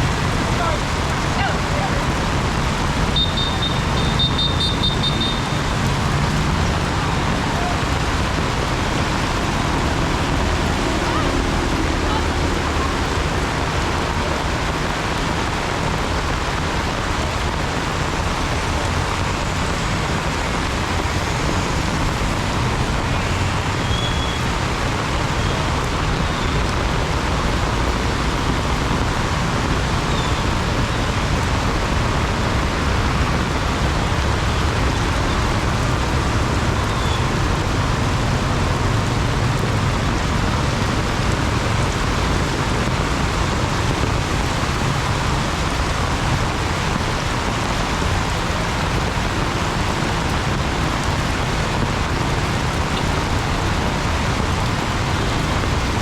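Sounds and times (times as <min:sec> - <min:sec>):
heavy rain pouring: 0:00.0 - 0:56.0
road traffic rumble: 0:00.0 - 0:56.0.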